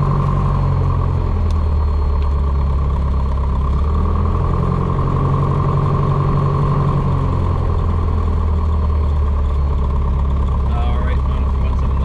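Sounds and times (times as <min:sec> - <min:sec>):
airplane engine and propeller drone: 0:00.0 - 0:12.0.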